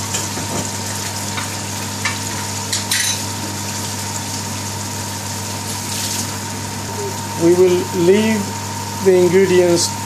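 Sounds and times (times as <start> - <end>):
curry sizzling and bubbling: 0.0 - 10.0.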